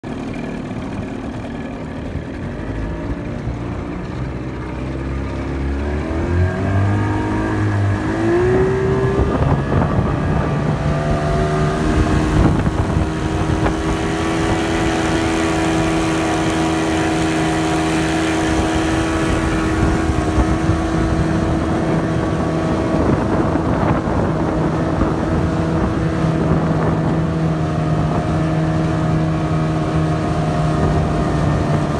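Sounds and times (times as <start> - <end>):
outboard motor: 0.0 - 31.9.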